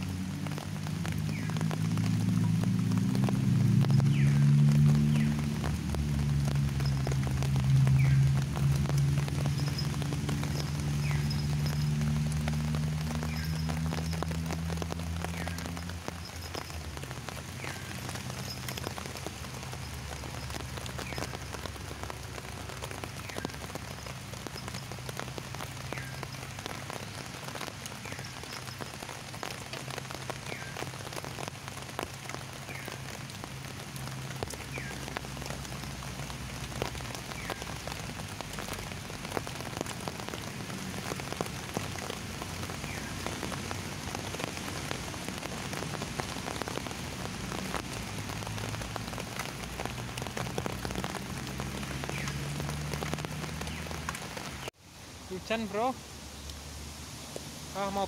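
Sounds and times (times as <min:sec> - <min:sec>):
drops ticking: 0:00.0 - 0:54.6
steady rain falling: 0:00.0 - 0:58.0.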